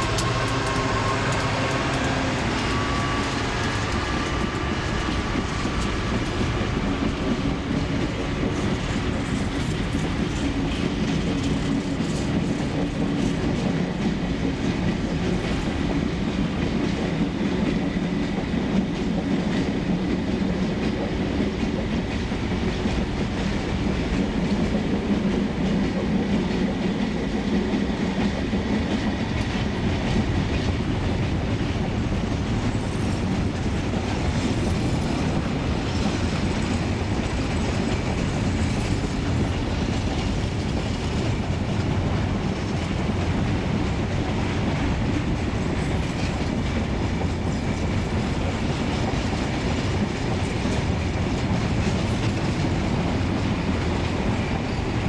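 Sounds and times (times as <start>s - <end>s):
low diesel locomotive drone: 0.0s - 55.0s
train wheels clattering over rail joints: 0.0s - 55.0s.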